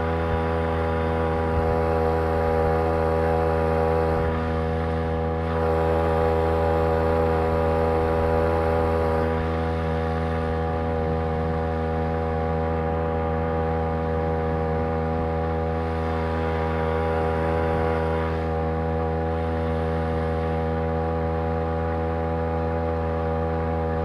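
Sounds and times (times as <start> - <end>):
two-stroke outboard motor droning: 0.0 - 24.0.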